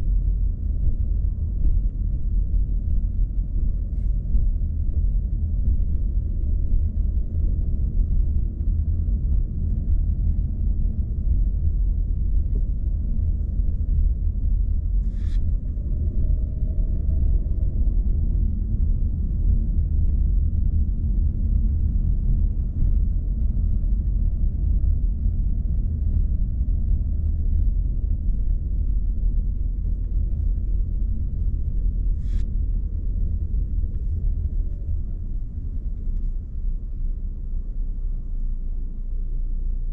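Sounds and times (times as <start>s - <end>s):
car driving at low speed: 0.0s - 39.9s.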